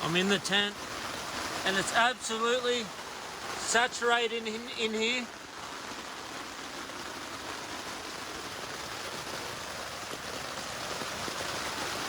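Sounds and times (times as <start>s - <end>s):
heavy rain on tent fabric: 0.0s - 12.0s.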